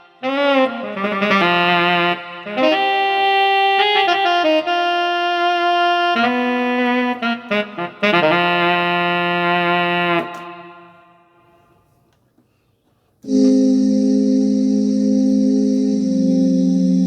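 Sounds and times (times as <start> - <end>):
synthesizer saxophone-like lead: 0.0 - 11.3, 13.2 - 17.0.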